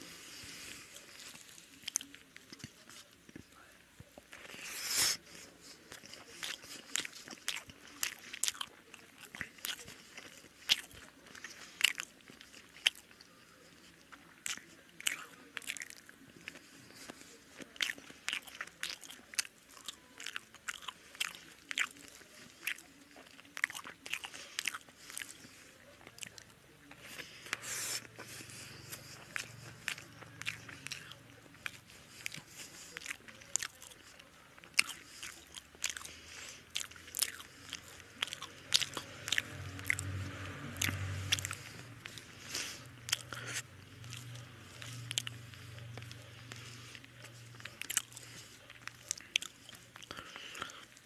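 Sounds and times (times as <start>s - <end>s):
man chewing and lip smacking: 4.1s - 51.0s.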